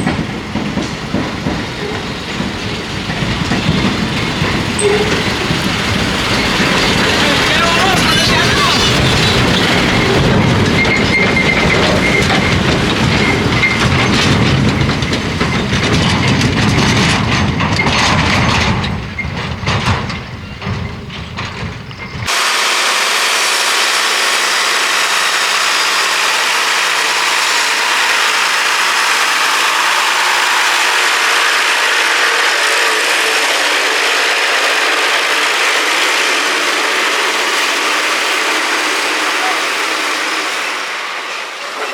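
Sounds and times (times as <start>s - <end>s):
heavy truck rattling: 0.0s - 22.4s, 23.1s - 41.9s.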